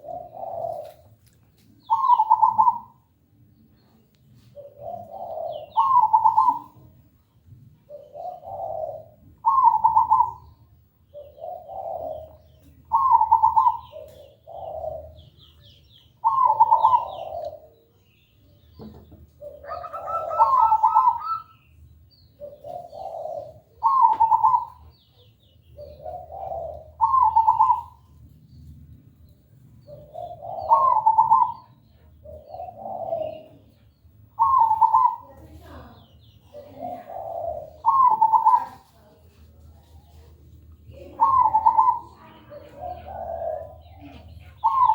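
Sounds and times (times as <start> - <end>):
dove cooing: 0.0 - 1.1, 1.8 - 3.1, 4.5 - 7.0, 7.8 - 18.0, 19.2 - 21.7, 22.4 - 28.2, 29.8 - 39.3, 40.0 - 44.9
small bird chirping: 0.0 - 44.9.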